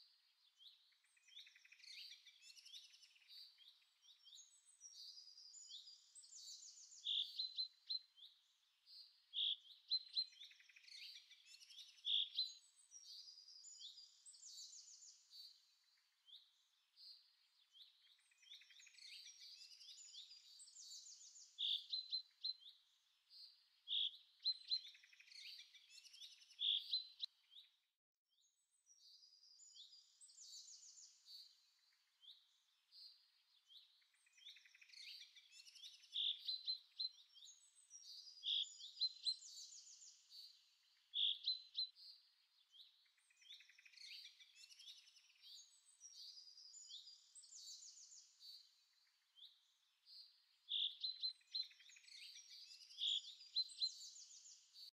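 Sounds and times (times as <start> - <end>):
small birds chirping and trilling: 0.0 - 54.9.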